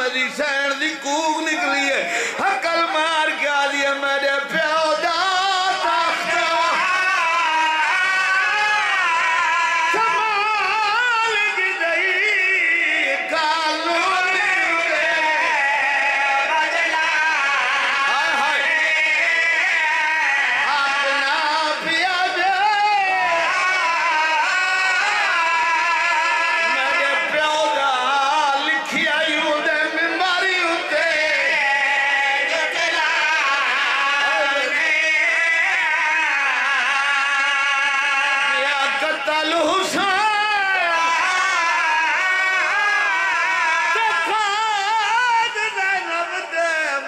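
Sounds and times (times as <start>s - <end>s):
men singing mournful chant: 0.0s - 47.0s.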